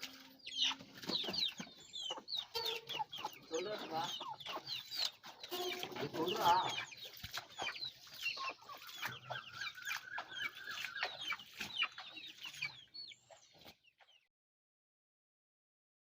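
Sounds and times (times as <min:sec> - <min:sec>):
chickens clucking and chirping: 0:00.0 - 0:14.3.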